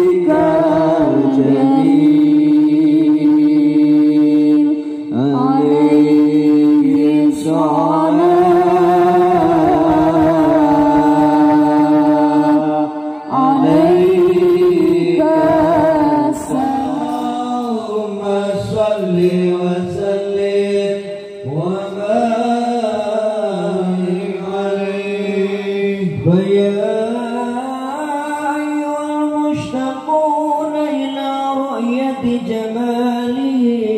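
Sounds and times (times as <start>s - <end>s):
devotional chanting voices: 0.0s - 33.9s.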